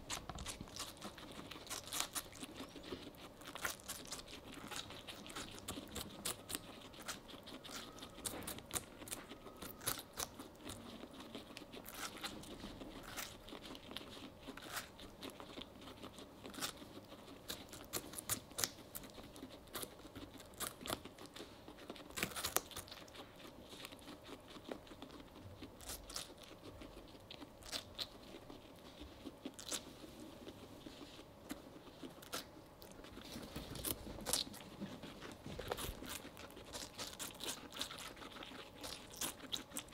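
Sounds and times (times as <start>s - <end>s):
guinea pigs chewing watermelon: 0.0s - 39.9s.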